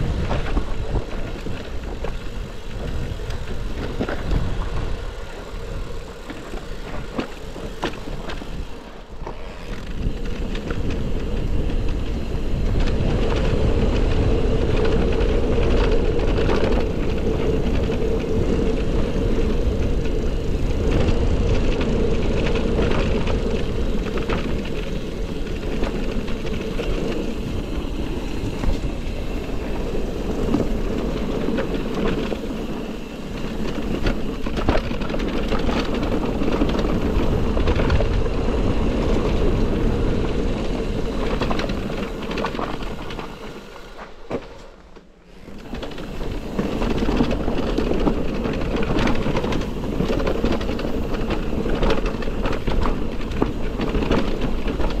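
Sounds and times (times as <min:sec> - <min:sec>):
bike rattling and knocking: 0:00.0 - 0:55.0
bike tyre noise: 0:00.0 - 0:55.0
wind rumbling on microphone: 0:00.0 - 0:55.0.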